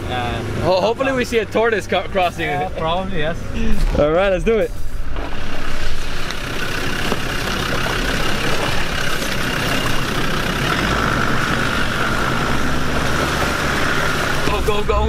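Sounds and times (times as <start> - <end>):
constant high whine: 0.0 - 15.0
off-road vehicle engine running: 0.0 - 15.0.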